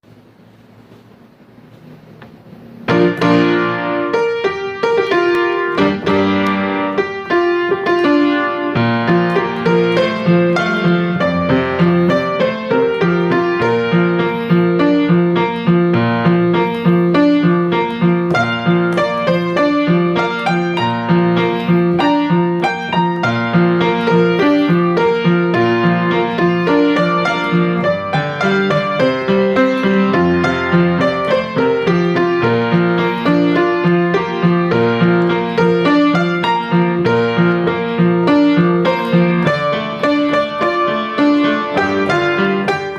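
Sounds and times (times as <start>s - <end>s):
piano music: 2.6s - 42.9s.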